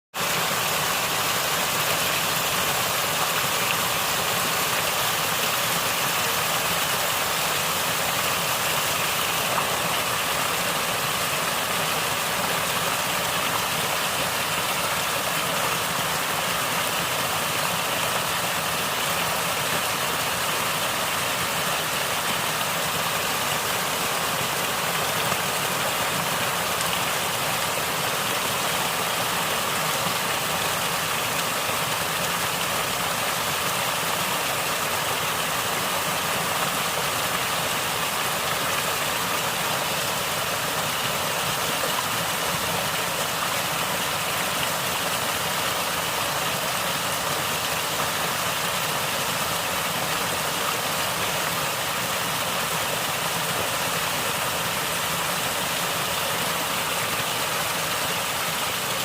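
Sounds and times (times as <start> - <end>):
water flowing and gurgling: 0.2 - 59.0.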